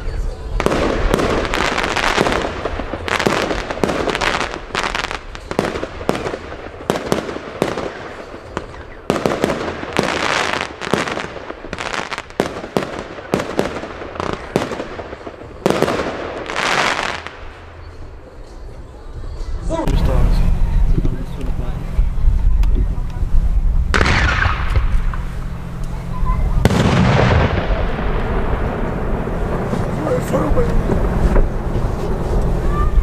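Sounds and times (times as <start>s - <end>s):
fireworks launching and bursting: 0.4s - 18.0s, 23.8s - 33.0s.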